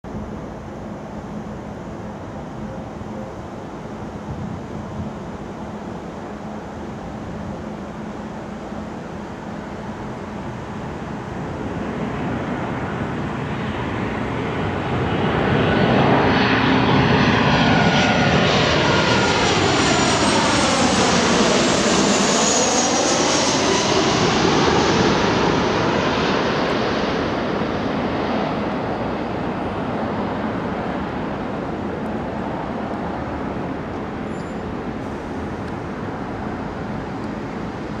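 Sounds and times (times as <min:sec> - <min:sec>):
jet plane flying low overhead: 0:00.0 - 0:38.0.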